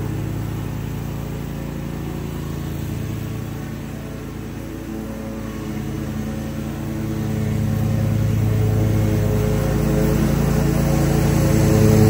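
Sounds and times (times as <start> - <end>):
riding mower engine running: 0.0 - 12.0.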